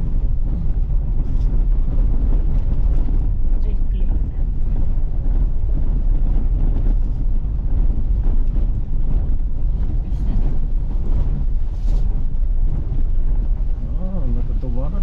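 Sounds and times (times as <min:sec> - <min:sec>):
road and wind noise: 0:00.0 - 0:15.0
vehicle engine rumble: 0:00.0 - 0:15.0.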